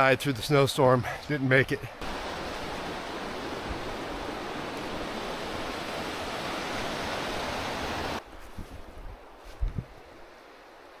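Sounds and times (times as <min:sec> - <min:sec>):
stream water rushing: 0:00.0 - 0:08.3, 0:09.1 - 0:11.0.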